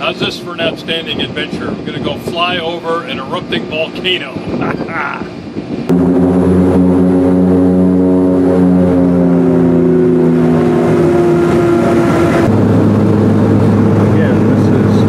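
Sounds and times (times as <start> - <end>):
turboprop engine drone: 0.0 - 15.0.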